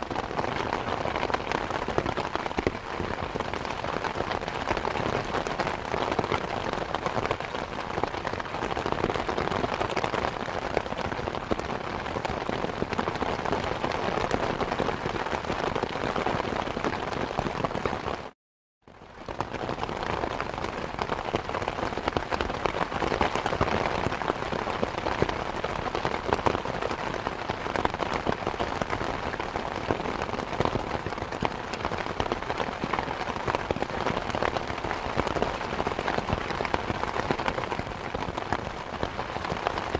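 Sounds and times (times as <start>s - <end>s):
dense rain pattering: 0.0s - 39.9s.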